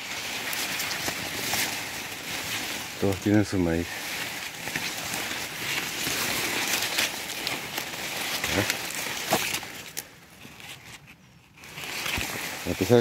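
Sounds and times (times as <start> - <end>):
leaves rustling and crackling: 0.0 - 13.0.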